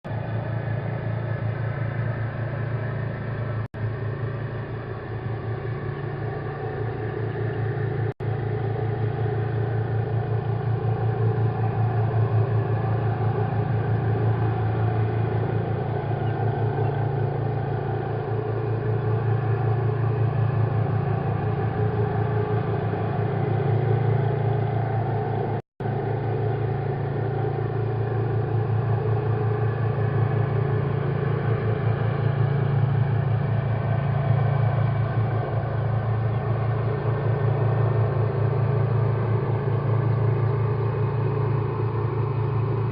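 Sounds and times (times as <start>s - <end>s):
mechanical drone with low pulsing: 0.0s - 42.9s.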